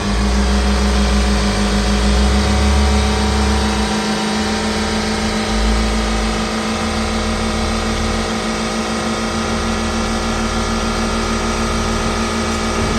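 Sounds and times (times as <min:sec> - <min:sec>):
car engine running steadily: 0:00.0 - 0:12.9.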